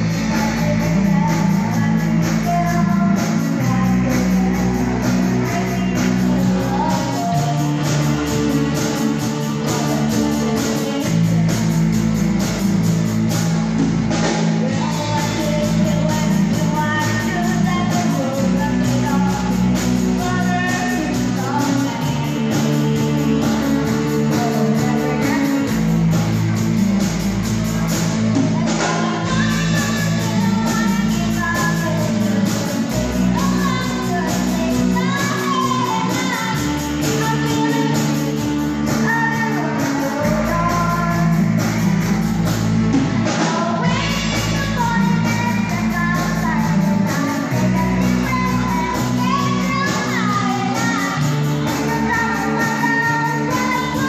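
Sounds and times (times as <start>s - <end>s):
girl singing into microphone: 0.0s - 13.4s, 14.4s - 27.2s, 28.4s - 54.0s
amplified electric guitars: 0.0s - 54.0s
keyboard: 0.0s - 54.0s.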